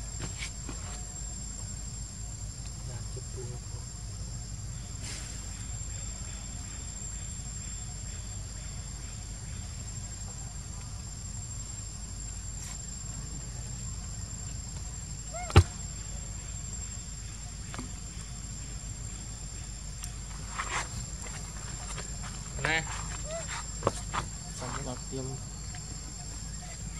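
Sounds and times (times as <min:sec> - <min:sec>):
high insect drone: 0:00.0 - 0:26.9.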